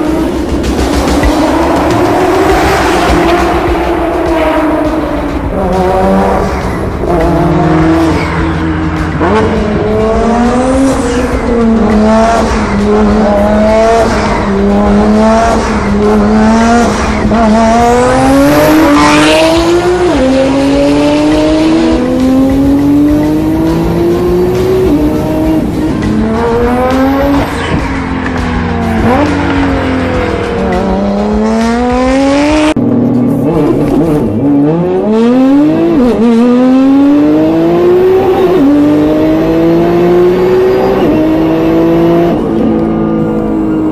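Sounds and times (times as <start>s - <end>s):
car engine accelerating hard: 0.0s - 43.9s.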